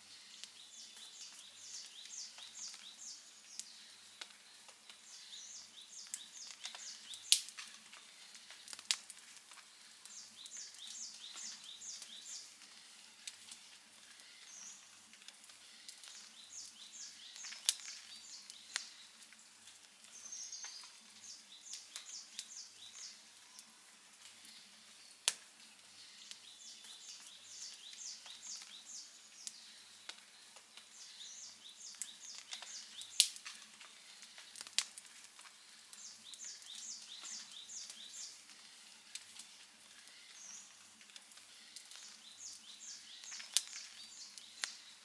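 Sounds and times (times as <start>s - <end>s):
campfire crackling and popping: 0.2s - 45.0s.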